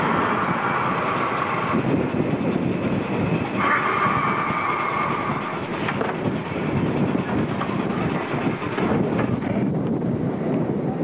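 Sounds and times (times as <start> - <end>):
tram wheels clicking: 0.0 - 10.0
tram rumbling on rails: 0.0 - 11.0.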